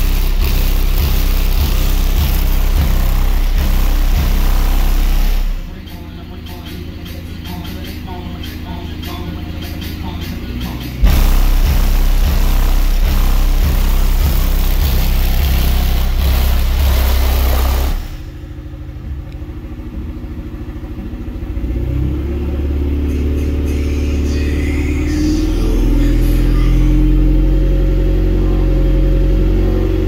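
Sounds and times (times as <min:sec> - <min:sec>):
deep bass music from subwoofers: 0:00.0 - 0:30.0.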